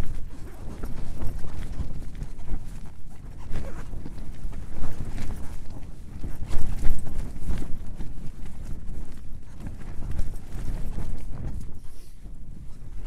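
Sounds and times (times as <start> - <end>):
low rumble of wind: 0.0 - 13.0
tent fabric flapping: 0.0 - 13.0.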